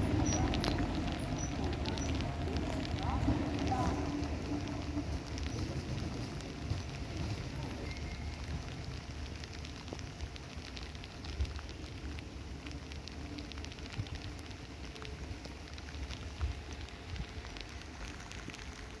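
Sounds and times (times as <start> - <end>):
low rumble: 0.0 - 18.0
drops ticking: 0.0 - 18.6
rain hissing: 0.0 - 19.0.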